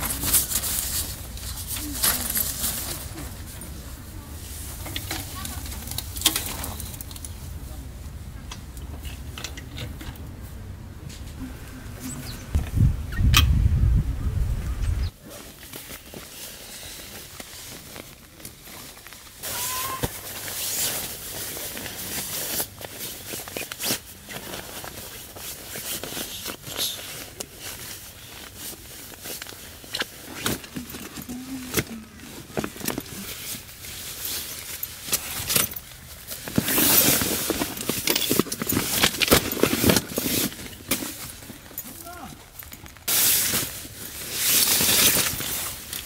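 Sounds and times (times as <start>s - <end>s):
nylon gear rustling and crinkling: 0.0s - 10.5s, 15.2s - 46.0s.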